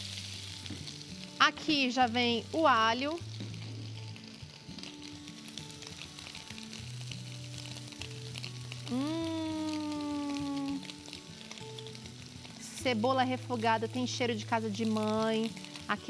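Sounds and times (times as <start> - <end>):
onion and garlic sizzling in oil: 0.0 - 16.0
soft background music: 0.0 - 16.0.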